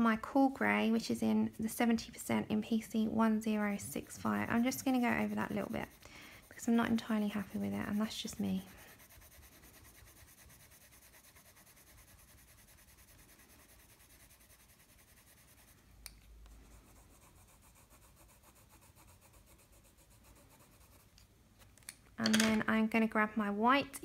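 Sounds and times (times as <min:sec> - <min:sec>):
coloured pencil scratching on paper: 0:00.1 - 0:15.8, 0:16.6 - 0:21.2.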